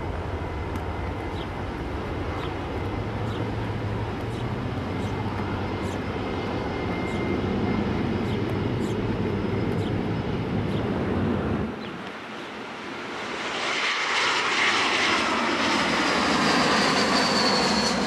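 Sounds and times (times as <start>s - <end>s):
jet airliner taking off: 0.0s - 18.0s.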